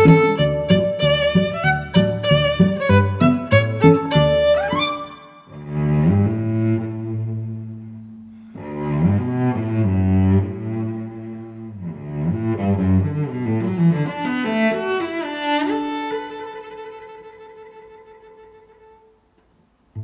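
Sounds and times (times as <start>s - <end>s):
low string-like instrumental music: 0.0s - 19.2s.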